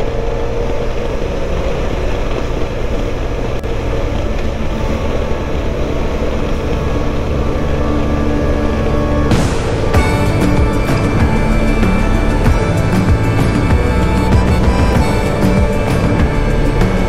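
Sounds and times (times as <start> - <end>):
motorcycle engine running: 0.0 - 17.0
wind rush and buffeting: 0.0 - 17.0.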